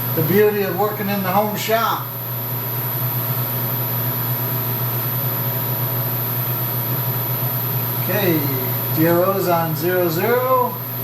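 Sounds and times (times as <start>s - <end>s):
milling machine motor hum: 0.0s - 11.0s.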